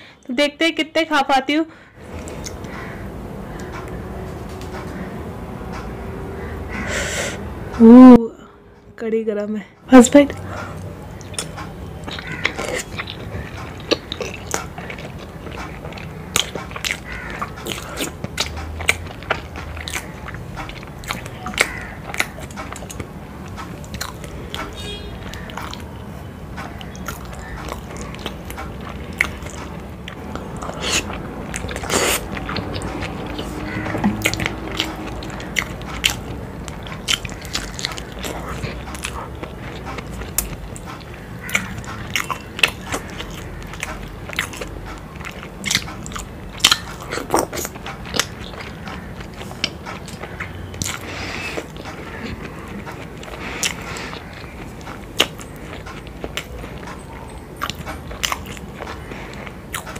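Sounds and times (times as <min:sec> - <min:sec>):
close chewing with mouth clicks: 0:02.1 - 0:04.0, 0:10.3 - 0:59.9.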